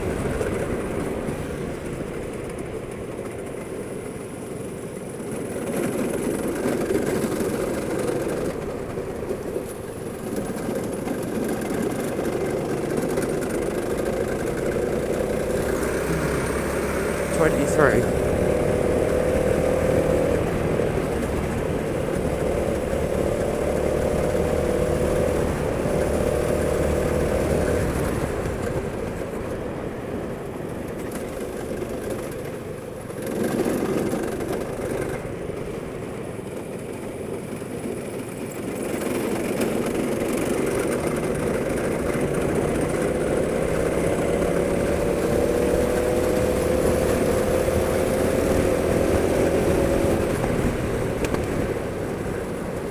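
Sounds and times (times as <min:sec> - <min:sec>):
go-kart engine accelerating: 0:00.0 - 0:52.9.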